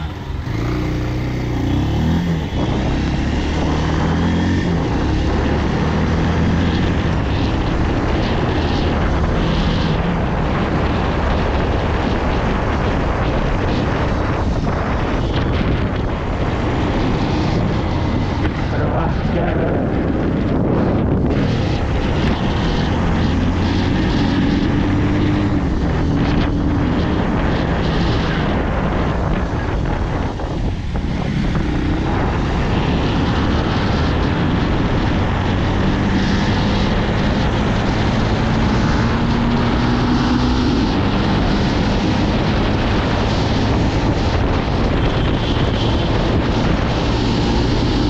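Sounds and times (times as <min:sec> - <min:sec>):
motorcycle engine running: 0:00.0 - 0:48.0
wind on microphone: 0:00.0 - 0:48.0.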